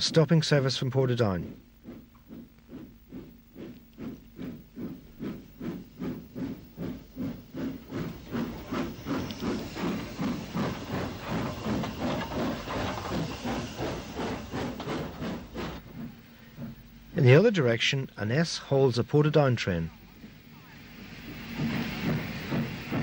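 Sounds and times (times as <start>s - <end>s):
steam hissing: 0.0s - 16.8s, 20.0s - 23.0s
steam locomotive chuffing: 0.0s - 17.9s, 19.7s - 23.0s.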